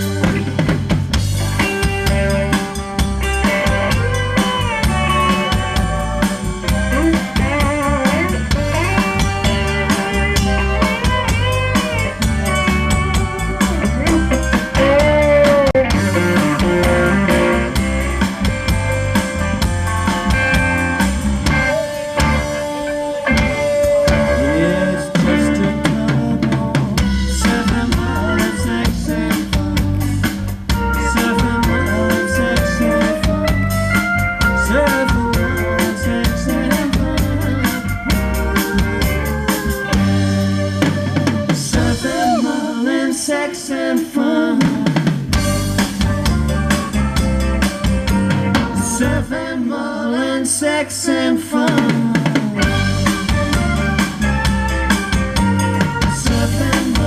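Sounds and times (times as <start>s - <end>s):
drum kit beat: 0.0s - 42.9s, 44.6s - 49.3s, 51.7s - 57.0s
electric guitar: 0.0s - 49.6s, 51.6s - 57.0s
bass guitar: 0.0s - 49.9s, 51.4s - 57.0s.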